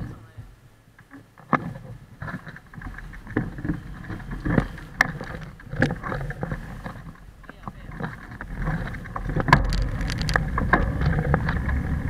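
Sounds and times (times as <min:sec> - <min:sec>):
camera mount rumbling and rattling: 0:01.0 - 0:12.0.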